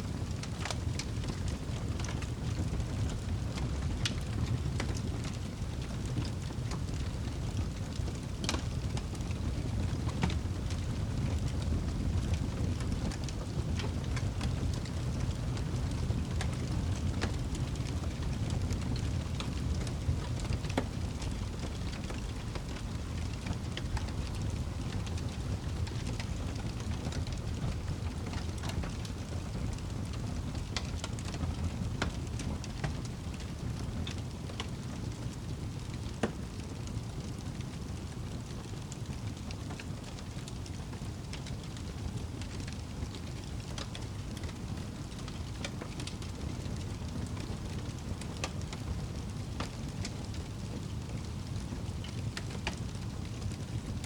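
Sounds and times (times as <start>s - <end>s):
low fire rumble: 0.0s - 54.0s
campfire crackling and popping: 0.1s - 54.0s.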